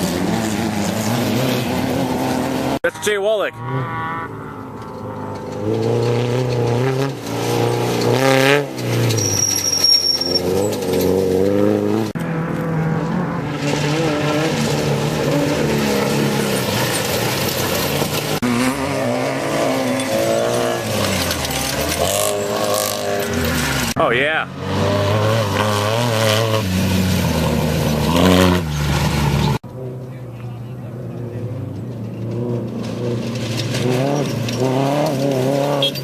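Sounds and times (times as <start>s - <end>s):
race vehicle engines revving: 0.0s - 36.0s.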